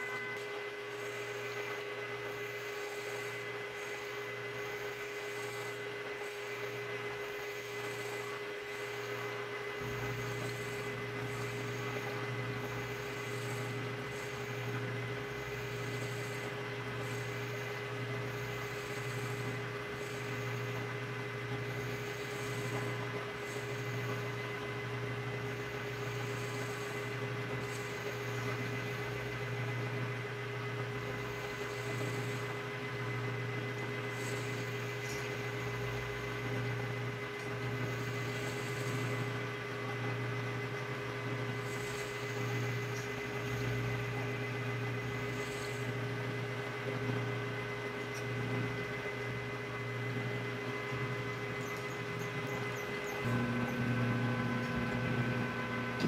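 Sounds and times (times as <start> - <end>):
lathe motor humming: 0.0 - 56.0.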